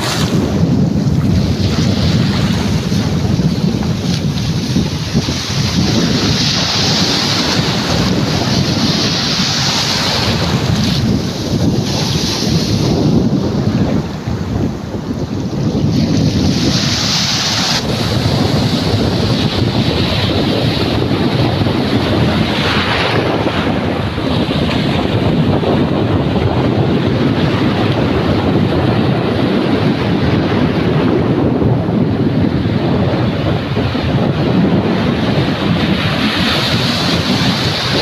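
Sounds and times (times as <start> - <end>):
surf breaking on beach: 0.0 - 38.0
wind buffeting microphone: 0.0 - 38.0.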